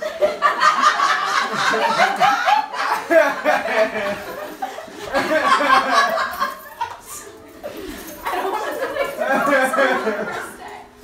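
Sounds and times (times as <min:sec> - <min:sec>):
people laughing: 0:00.0 - 0:10.9.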